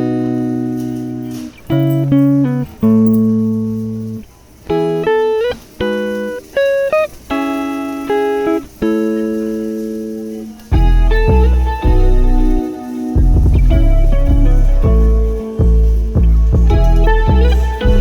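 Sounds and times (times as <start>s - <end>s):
guitar playing plucked chords: 0.0s - 18.0s.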